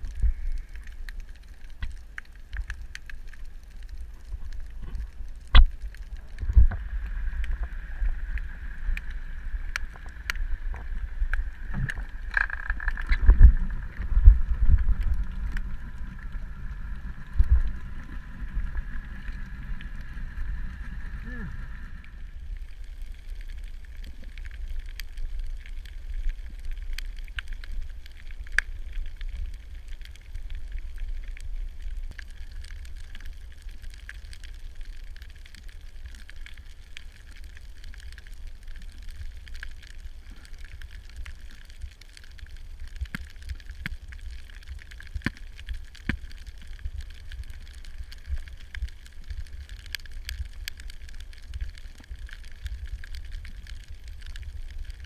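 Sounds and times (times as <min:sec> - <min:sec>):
crackling clicks: 0:00.0 - 0:55.0
underwater rumble: 0:00.0 - 0:55.0.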